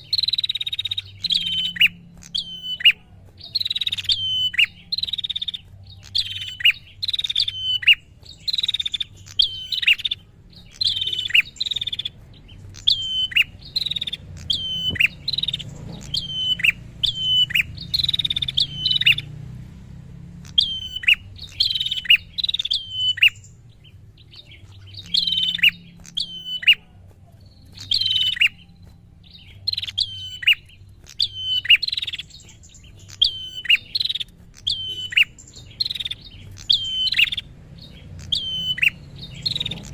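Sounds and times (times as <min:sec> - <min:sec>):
bird calling in sharp bursts: 0:00.0 - 0:26.9, 0:27.7 - 0:39.9.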